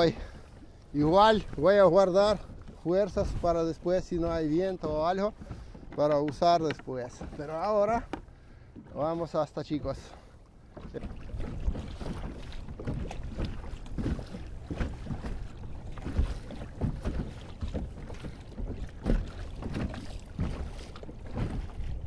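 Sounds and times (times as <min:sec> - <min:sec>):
water splashing against kayak: 0:00.0 - 0:22.0
wind on microphone: 0:01.0 - 0:07.6, 0:10.8 - 0:22.0.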